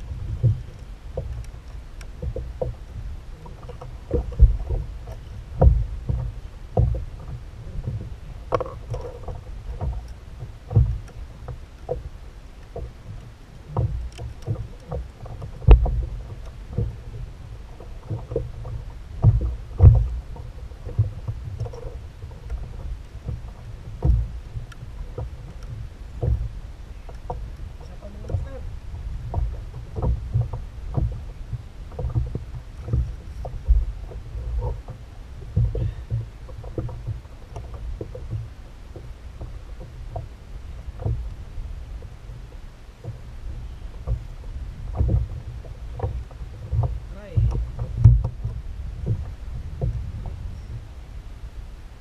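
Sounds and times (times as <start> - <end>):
gear knocking against plastic hull: 0.0 - 12.1, 12.7 - 41.4, 42.4 - 50.5
water rumble: 0.0 - 52.0
wind: 0.0 - 52.0.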